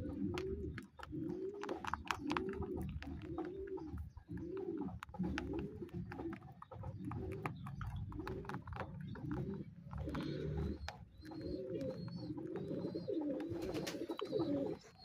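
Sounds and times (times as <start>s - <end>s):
pigeons cooing: 0.0s - 15.0s
sharp clicks and taps: 0.0s - 15.0s.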